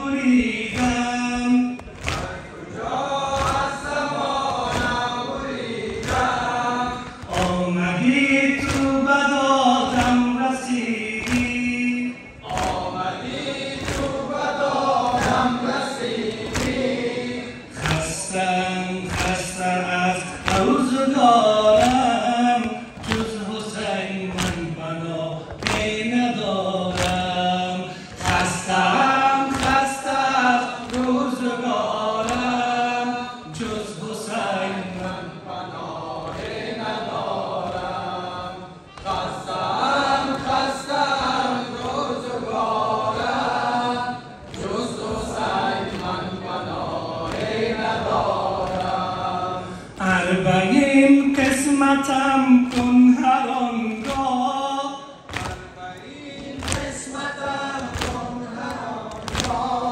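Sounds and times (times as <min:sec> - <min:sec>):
men chanting in chorus: 0:00.0 - 0:59.9.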